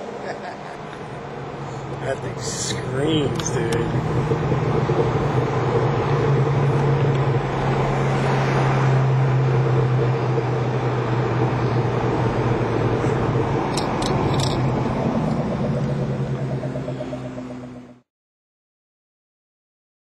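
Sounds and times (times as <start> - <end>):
car engine droning: 0.0 - 18.1
road noise: 0.0 - 18.1.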